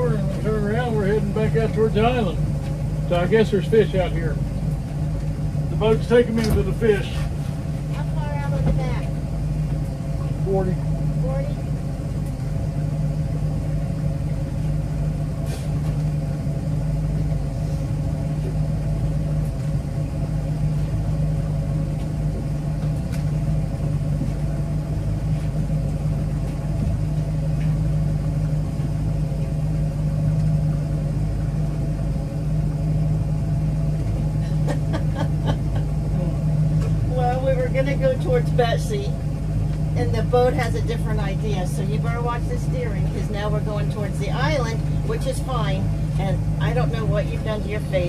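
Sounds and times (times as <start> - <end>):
boat engine humming: 0.0 - 48.0.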